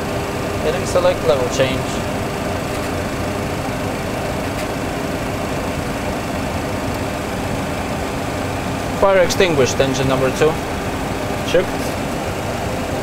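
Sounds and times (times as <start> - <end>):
jet engine and airflow noise: 0.0 - 13.0.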